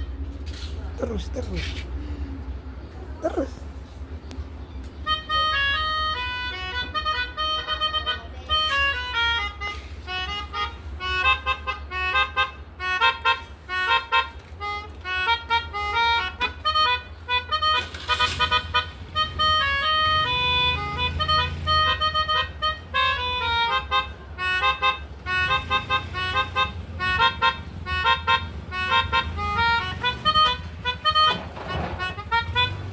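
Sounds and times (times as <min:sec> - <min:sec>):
reedy horn playing short notes: 0:05.0 - 0:32.9.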